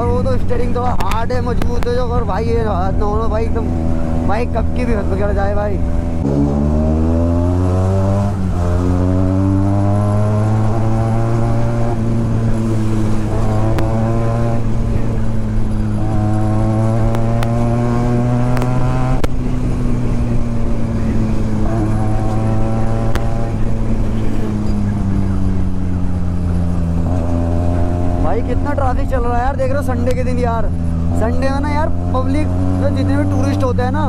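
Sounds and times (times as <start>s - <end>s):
motorcycle engine with loud exhaust: 0.0s - 34.0s.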